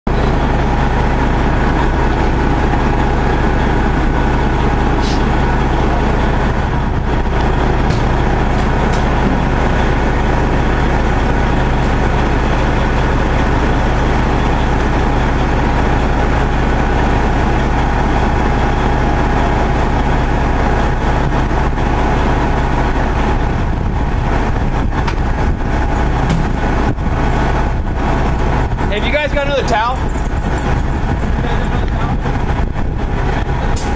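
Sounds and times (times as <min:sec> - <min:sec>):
diesel truck engine rumbling: 0:00.1 - 0:33.9.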